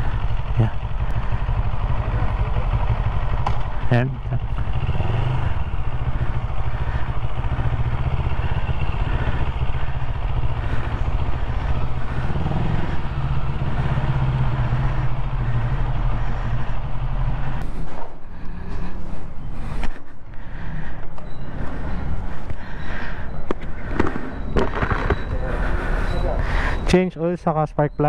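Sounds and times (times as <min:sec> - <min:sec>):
motorcycle engine running slowly: 0:00.0 - 0:26.8.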